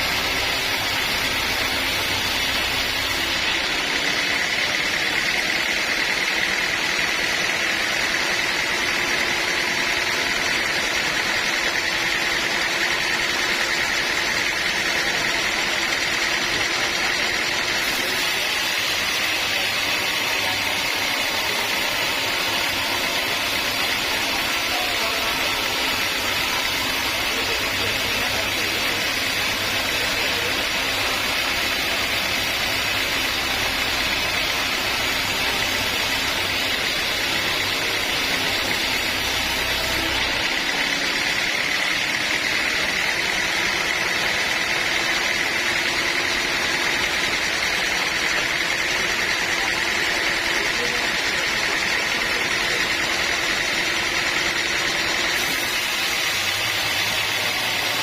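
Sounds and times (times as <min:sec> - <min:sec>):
bandsaw high whine: 0:00.0 - 0:58.0
mechanical drone: 0:00.0 - 0:58.0.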